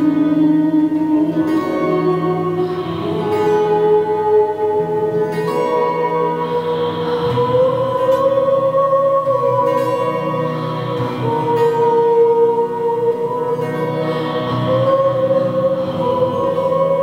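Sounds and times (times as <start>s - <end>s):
electric guitar: 0.0s - 17.0s
woman singing long notes: 0.0s - 17.0s.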